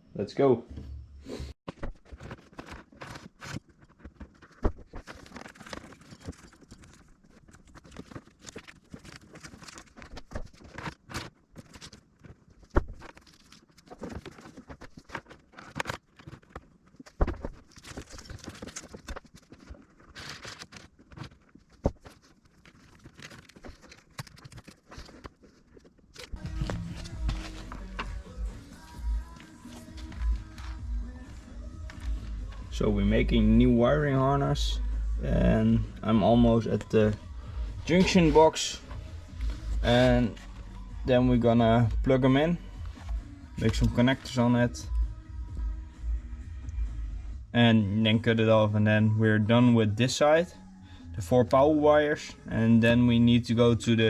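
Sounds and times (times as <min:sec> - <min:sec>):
rustling: 0:01.7 - 0:45.6.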